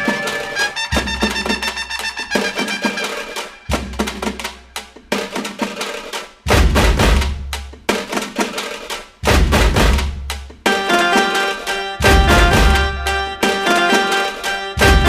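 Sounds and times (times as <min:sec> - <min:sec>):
rhythmic percussion music: 0:00.0 - 0:15.0.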